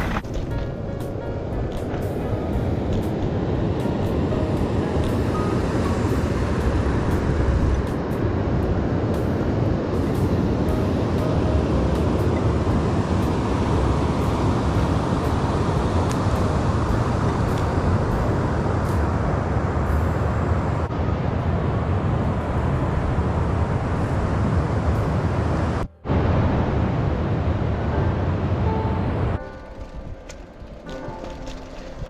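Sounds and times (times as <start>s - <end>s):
bicycle road noise: 0.0s - 32.0s.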